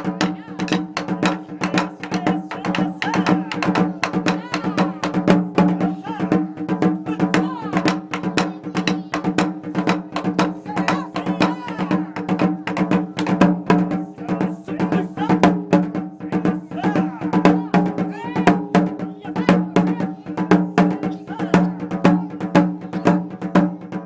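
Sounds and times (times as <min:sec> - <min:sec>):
taiko drums beating: 0:00.0 - 0:24.0.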